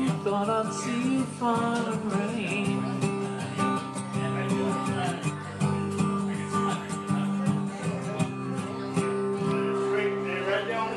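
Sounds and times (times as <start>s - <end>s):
acoustic guitar plucked: 0.0s - 10.9s.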